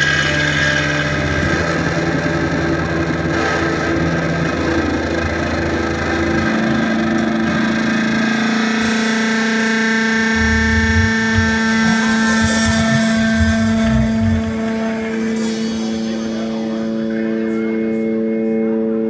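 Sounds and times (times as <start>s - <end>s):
electric bass droning: 0.0s - 18.2s
distorted electric guitar: 0.0s - 19.0s.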